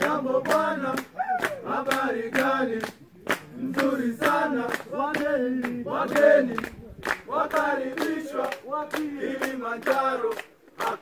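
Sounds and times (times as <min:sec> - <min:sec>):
hands clapping in time: 0:00.0 - 0:11.0
men singing in chorus: 0:00.0 - 0:11.0.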